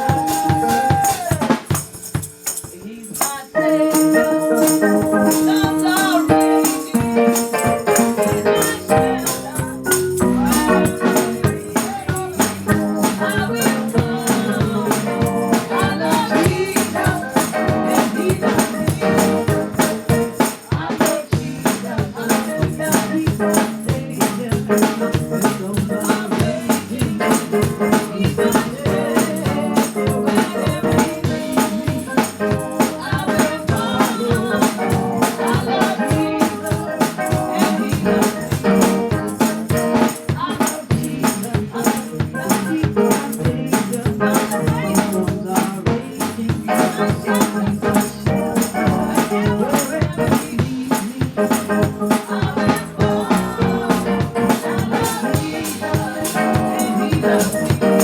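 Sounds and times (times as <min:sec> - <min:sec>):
gospel singing: 0:00.0 - 0:58.0
tambourine and rattles beat: 0:00.0 - 0:58.0.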